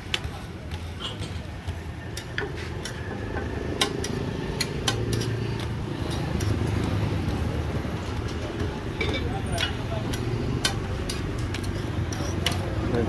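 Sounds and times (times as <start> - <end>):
utensils tapping on steel griddle: 0.0 - 13.0.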